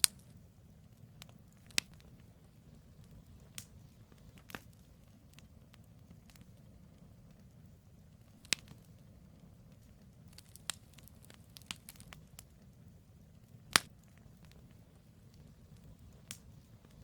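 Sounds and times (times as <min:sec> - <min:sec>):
campfire rumble: 0:00.0 - 0:17.0
logs crackling and popping: 0:00.0 - 0:17.0.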